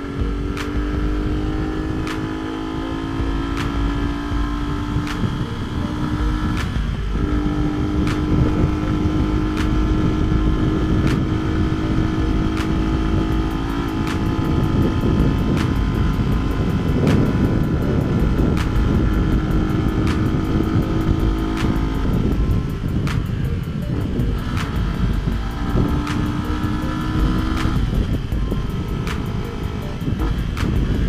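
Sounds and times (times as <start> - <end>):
motorcycle engine running: 0.0 - 31.0
wind rumble on microphone: 0.0 - 31.0.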